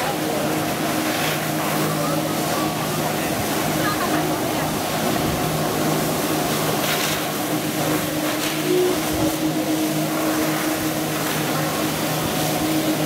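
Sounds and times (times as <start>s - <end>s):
jet ski engine running: 0.0s - 13.0s
water jets hissing: 0.0s - 13.0s.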